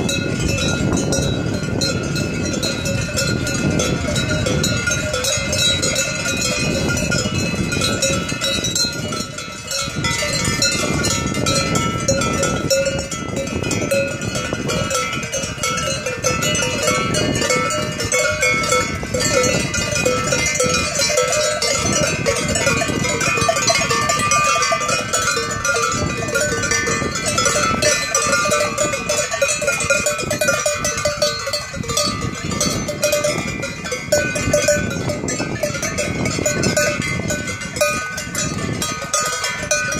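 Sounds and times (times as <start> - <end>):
cowbells jangling: 0.0 - 39.9.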